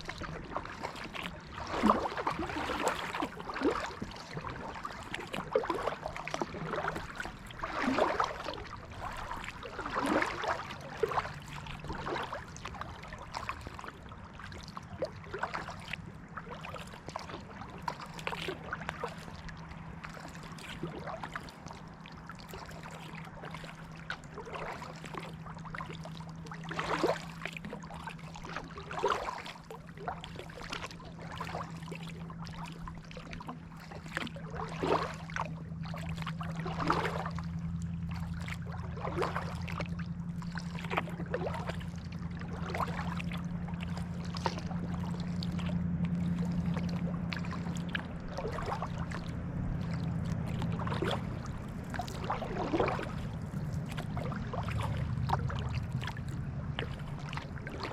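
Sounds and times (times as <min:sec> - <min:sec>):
kayak paddle splashing: 0:00.0 - 0:57.9
steady low hum: 0:00.0 - 0:57.9.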